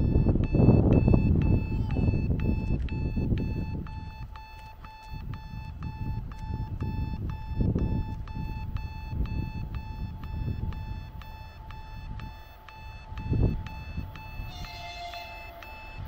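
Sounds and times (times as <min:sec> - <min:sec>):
level crossing signal beeping: 0:00.0 - 0:16.0.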